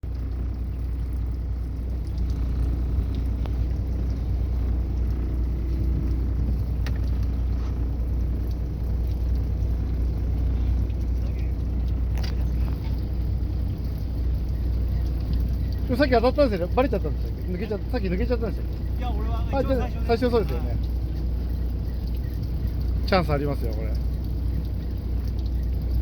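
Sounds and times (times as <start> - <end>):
boat engine rumbling: 0.0 - 26.0
water noise: 0.0 - 26.0
wind: 0.0 - 26.0.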